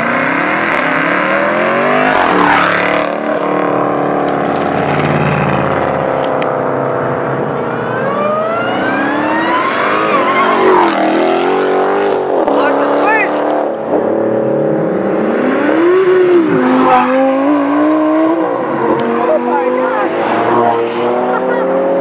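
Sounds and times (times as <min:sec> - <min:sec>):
car engine revving and accelerating: 0:00.0 - 0:22.0.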